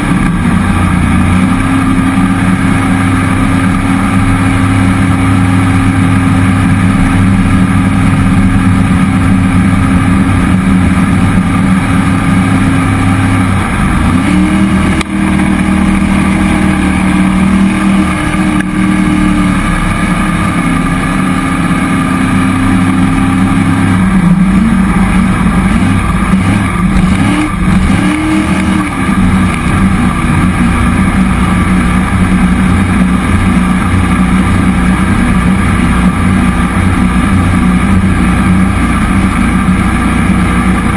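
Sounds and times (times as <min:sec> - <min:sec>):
jet boat engine running: 0:00.0 - 0:40.9.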